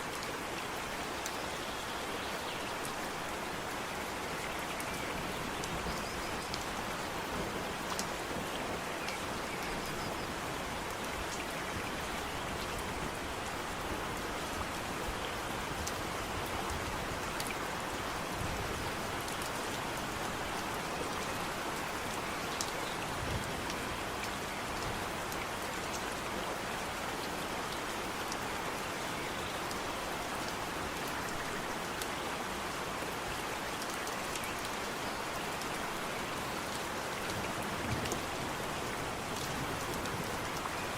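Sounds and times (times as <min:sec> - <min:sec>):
steady rain hiss: 0:00.0 - 0:40.9
raindrops ticking close by: 0:00.1 - 0:40.9.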